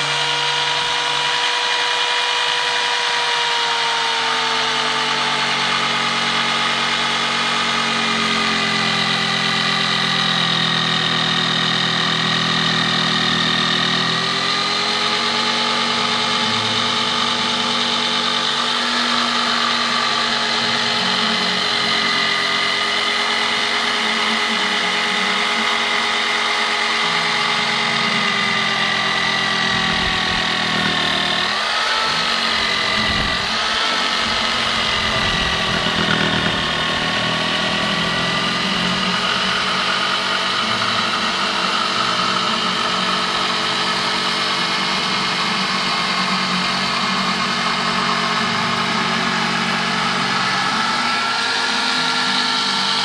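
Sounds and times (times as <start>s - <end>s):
jigsaw cutting wood: 0.0s - 53.0s.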